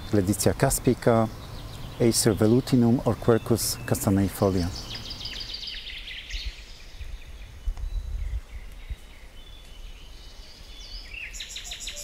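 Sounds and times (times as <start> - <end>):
faint bird chirps: 1.1 - 12.0.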